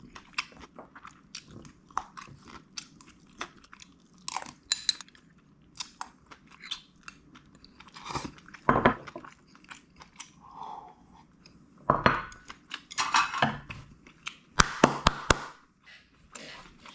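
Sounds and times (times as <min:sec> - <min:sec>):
chewing and crunching food: 0:00.0 - 0:14.5.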